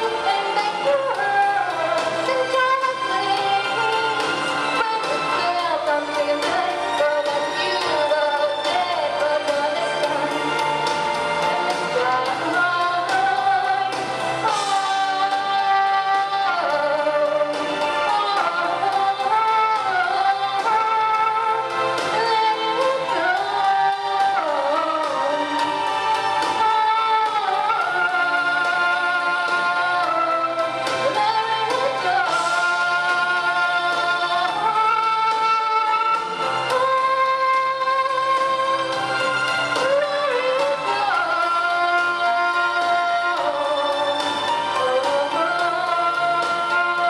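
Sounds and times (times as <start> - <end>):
backing track music: 0.0 - 47.0
woman singing pop vocal: 0.0 - 47.0.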